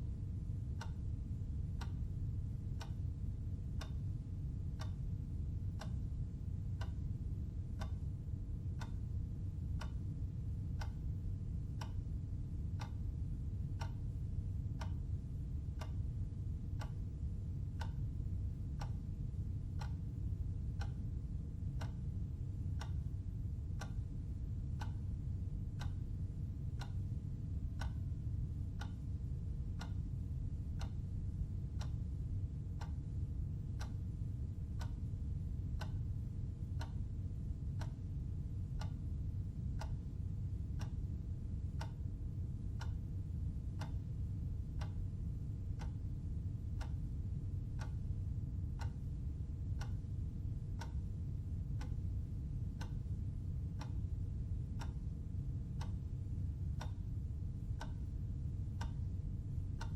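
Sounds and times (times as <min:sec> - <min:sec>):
clock ticking: 0:00.8 - 0:04.1, 0:04.7 - 0:12.1, 0:12.7 - 0:23.1, 0:23.7 - 0:30.1, 0:30.8 - 0:31.0, 0:31.6 - 0:40.0, 0:40.6 - 0:43.0, 0:43.7 - 0:55.2, 0:55.8 - 0:57.1, 0:57.7 - 0:59.9.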